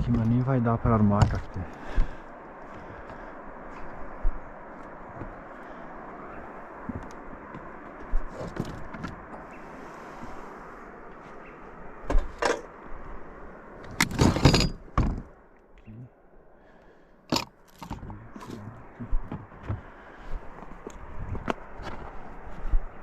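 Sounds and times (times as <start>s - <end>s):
rushing background noise: 0.0s - 23.0s.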